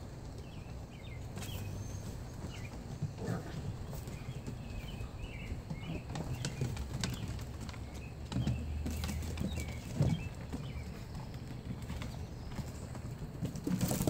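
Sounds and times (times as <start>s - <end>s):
dog claws on wooden deck: 2.6s - 14.0s.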